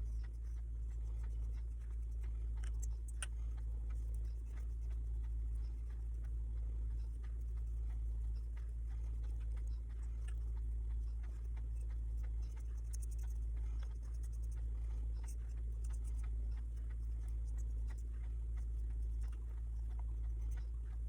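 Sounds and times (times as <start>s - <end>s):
paintbrush scratchy ticks: 0.0s - 21.0s
steady low hum: 0.0s - 21.0s.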